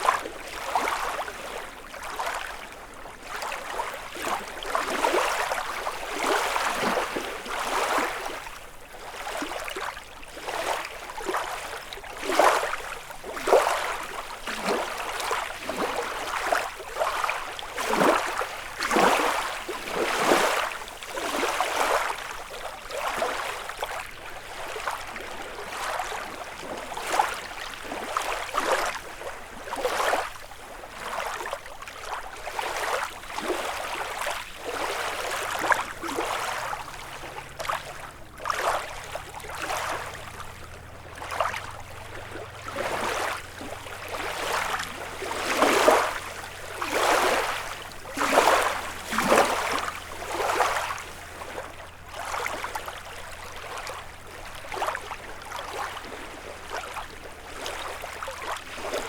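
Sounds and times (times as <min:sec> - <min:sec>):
waves lapping against shore: 0:00.0 - 0:59.0.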